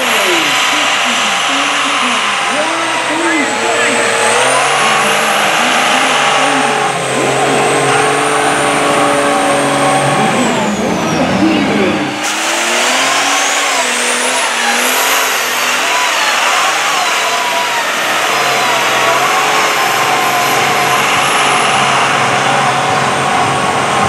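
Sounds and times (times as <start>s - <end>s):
high whine: 0.0s - 24.0s
truck engine revving hard: 0.0s - 24.0s.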